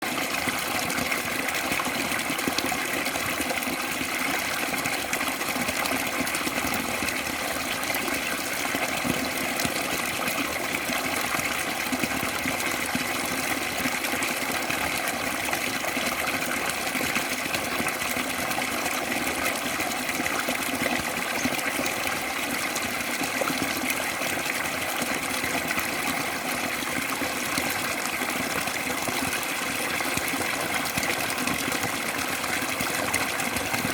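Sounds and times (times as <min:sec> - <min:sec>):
water pouring into pond: 0:00.0 - 0:33.9.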